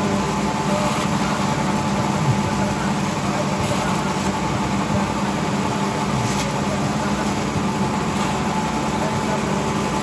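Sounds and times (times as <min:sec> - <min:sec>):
grass chopper engines droning: 0:00.0 - 0:10.0.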